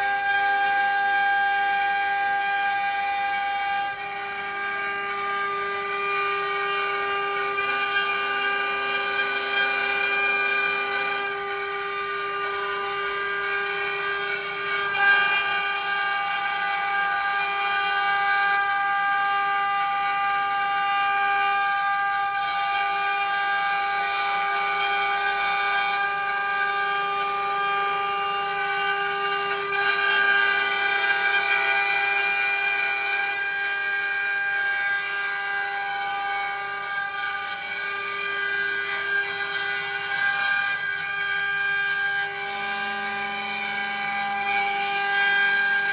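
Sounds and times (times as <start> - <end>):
router spindles whining: 0.0 - 45.9.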